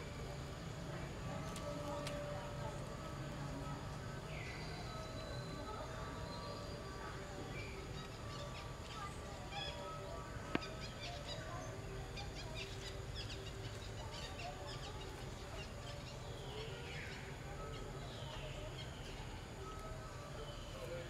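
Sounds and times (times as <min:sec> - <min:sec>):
birds chirping: 0:00.2 - 0:21.0.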